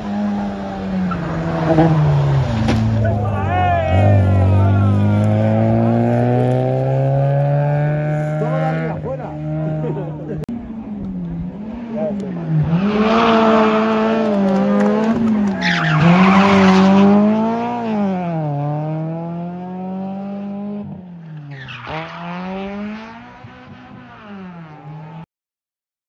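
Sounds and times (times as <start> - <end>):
race car engine revving: 0.0 - 25.2.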